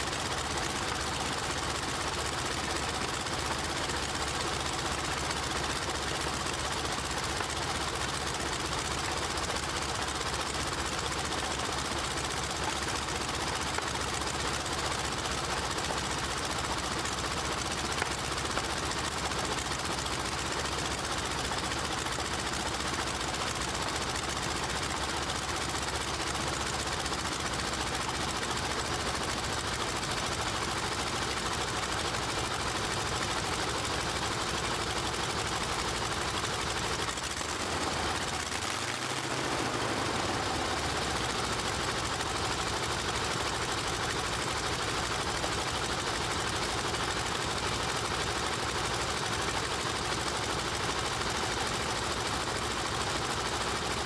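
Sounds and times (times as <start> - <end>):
radial aircraft engine running: 0.0 - 53.8.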